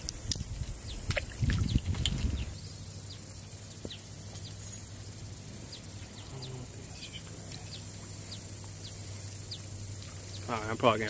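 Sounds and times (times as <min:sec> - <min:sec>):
crickets trilling: 0:00.0 - 0:11.0
short insect chirps: 0:00.0 - 0:11.0.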